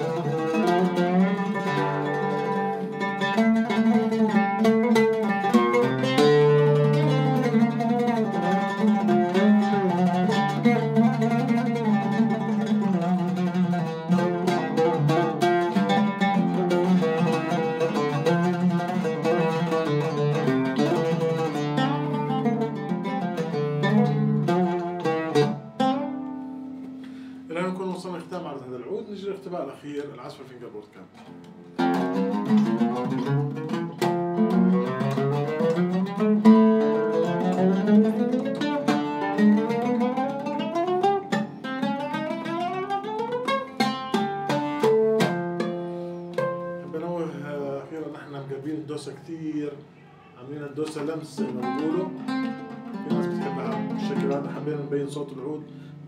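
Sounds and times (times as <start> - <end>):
oud played solo: 0.0 - 56.0.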